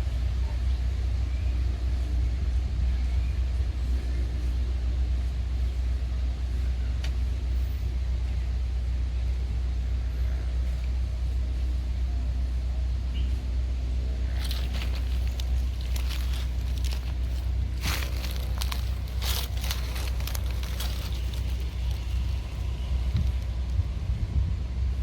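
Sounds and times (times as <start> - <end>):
diesel locomotive engine rumbling: 0.0 - 25.0.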